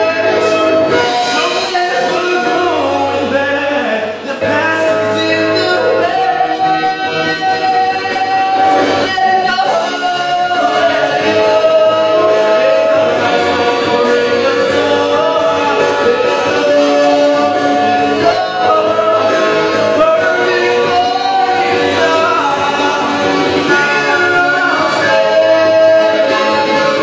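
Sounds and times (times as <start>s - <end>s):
man singing long notes: 0.0s - 27.0s.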